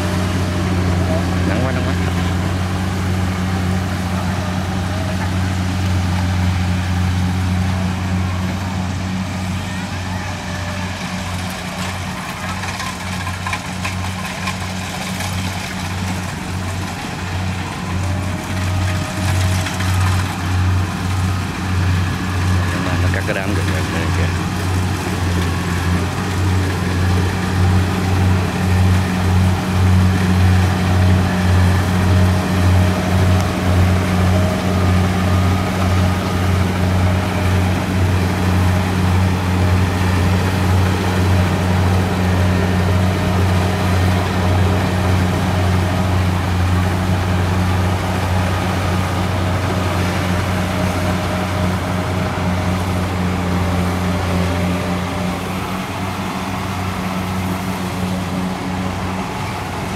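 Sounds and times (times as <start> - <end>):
combine harvester diesel drone: 0.0 - 59.9.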